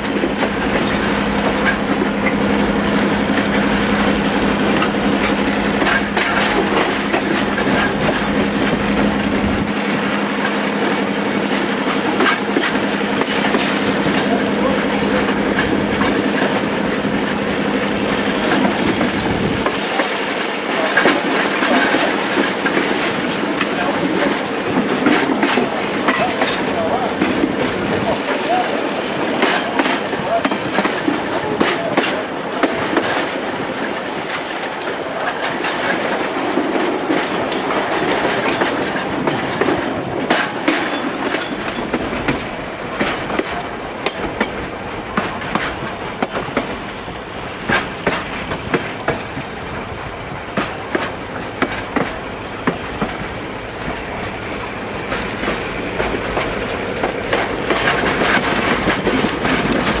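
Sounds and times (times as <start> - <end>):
train rumbling on track: 0.0 - 60.0
wheels clicking over rail joints: 0.0 - 60.0.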